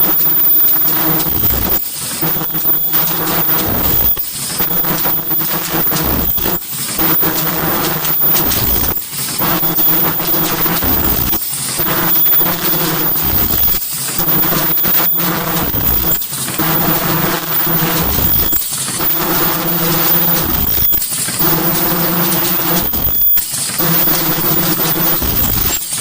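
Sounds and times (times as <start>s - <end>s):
machine buzzing hum: 0.0s - 26.0s.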